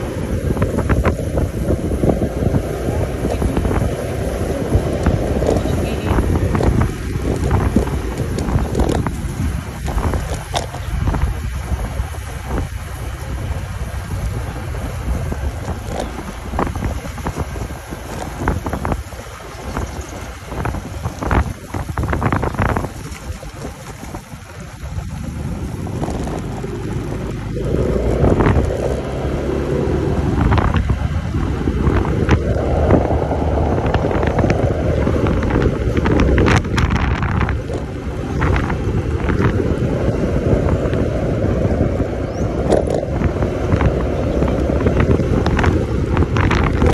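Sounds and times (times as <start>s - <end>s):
road noise: 0.0s - 46.9s
scooter engine: 0.0s - 46.9s
wind on microphone: 0.0s - 46.9s.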